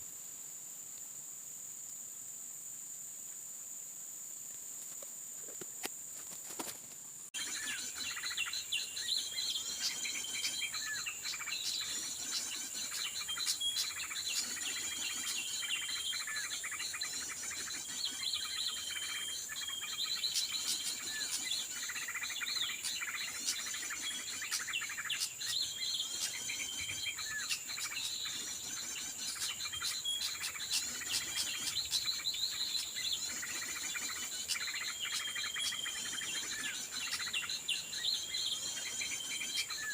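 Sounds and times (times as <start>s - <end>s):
high insect drone: 0.0s - 39.9s
small birds chirping: 6.4s - 39.9s.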